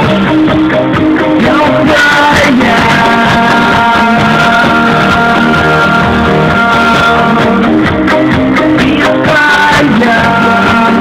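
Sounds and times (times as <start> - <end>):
live synth-rock band playing: 0.0 - 11.0.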